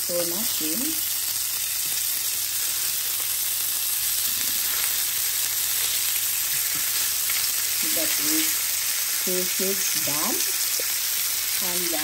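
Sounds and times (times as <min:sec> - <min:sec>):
sausages sizzling in oil: 0:00.0 - 0:12.0
tongs turning sausages: 0:00.2 - 0:11.9.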